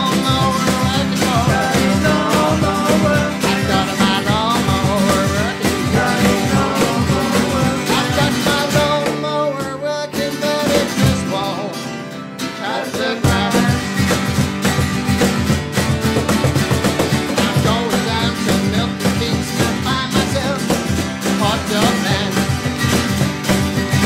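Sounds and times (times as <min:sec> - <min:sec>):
cajon beat: 0:00.0 - 0:24.0
guitars strummed and picked: 0:00.0 - 0:24.0.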